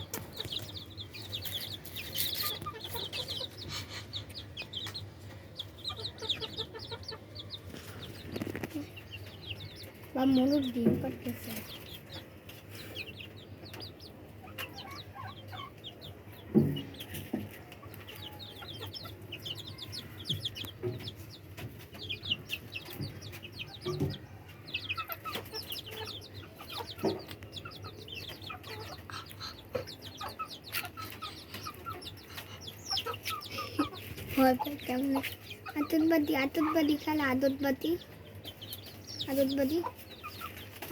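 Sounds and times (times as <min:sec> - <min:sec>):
chicken clucking: 0:00.0 - 0:40.9
chicks peeping: 0:00.0 - 0:40.9.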